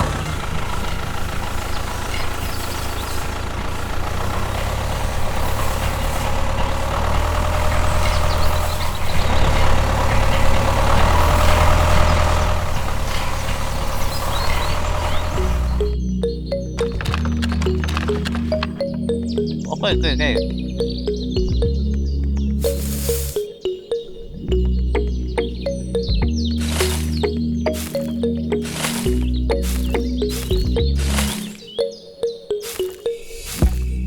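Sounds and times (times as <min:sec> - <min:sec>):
vehicle engine rumbling: 0:00.0 - 0:31.9, 0:32.5 - 0:34.0.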